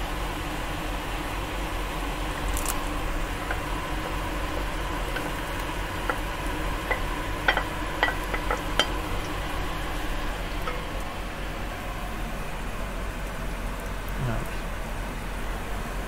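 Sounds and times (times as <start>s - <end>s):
onion sizzling in hot oil: 0.1s - 16.0s.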